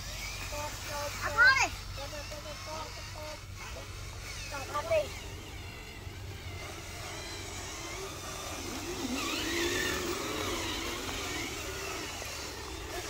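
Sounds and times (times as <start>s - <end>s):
toy truck motor whirring: 0.0s - 13.0s.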